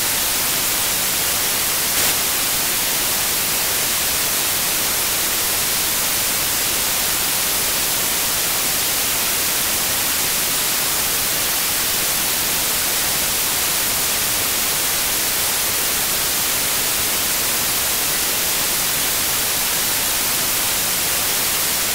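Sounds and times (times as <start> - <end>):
static hiss: 0.0 - 21.9.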